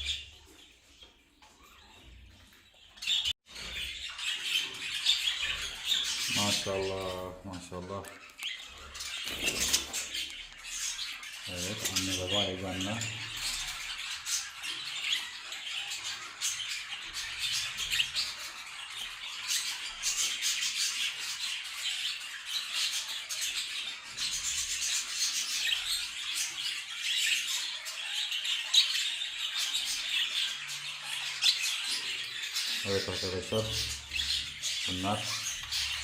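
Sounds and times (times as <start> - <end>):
budgerigars chattering and squawking: 0.0 - 36.0.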